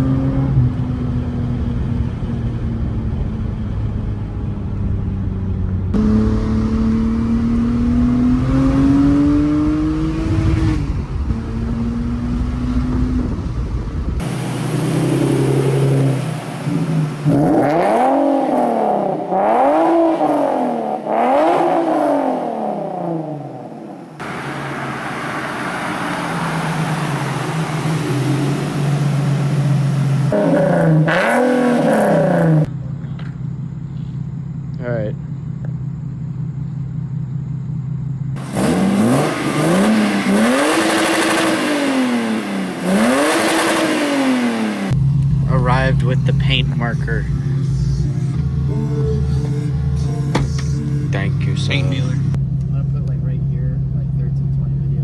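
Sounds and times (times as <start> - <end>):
car engine accelerating: 0.0 - 55.0
car engine revving: 0.0 - 55.0.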